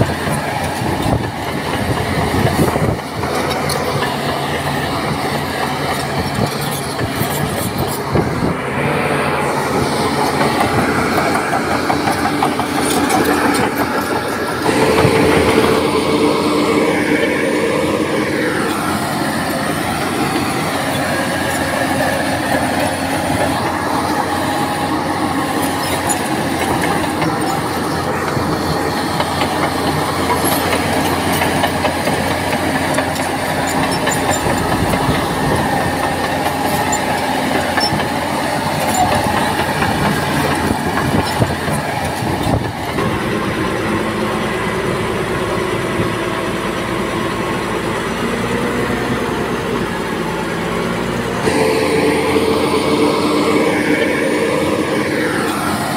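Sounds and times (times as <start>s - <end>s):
steel tracks clanking: 0.0s - 46.8s, 51.2s - 55.9s
diesel engine running under load: 0.0s - 55.9s.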